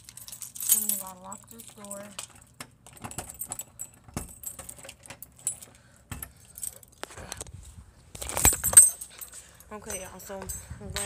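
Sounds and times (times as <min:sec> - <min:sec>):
keys jangling: 0:00.0 - 0:07.0, 0:08.2 - 0:11.0.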